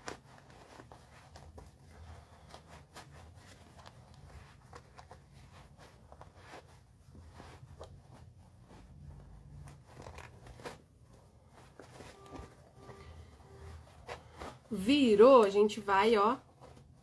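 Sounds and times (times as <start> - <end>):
fabric rustling and clicks: 0.0 - 17.0.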